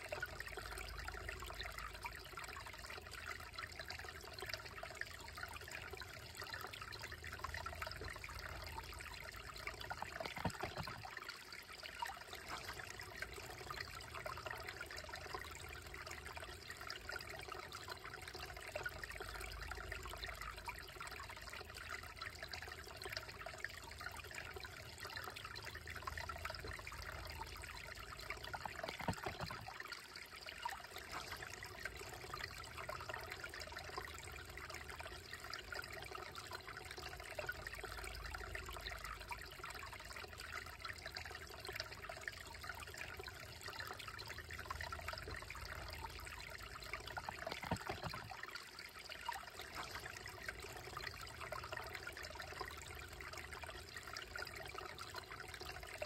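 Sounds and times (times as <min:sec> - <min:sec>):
creek trickling over rocks: 0:00.0 - 0:56.0.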